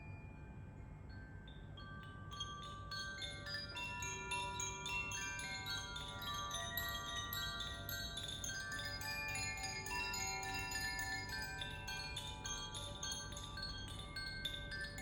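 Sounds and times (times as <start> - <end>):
wind chimes ringing: 0.0 - 15.0.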